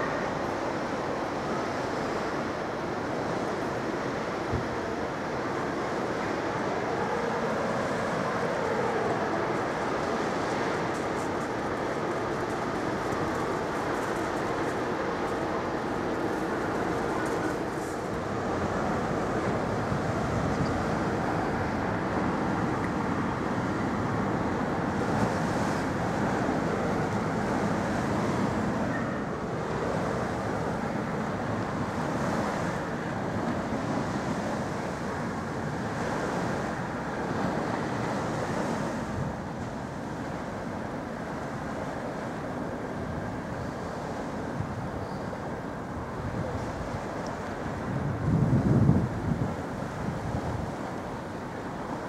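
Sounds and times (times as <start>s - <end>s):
ship engines rumbling: 0.0s - 52.0s
water of ship wash: 0.0s - 52.0s.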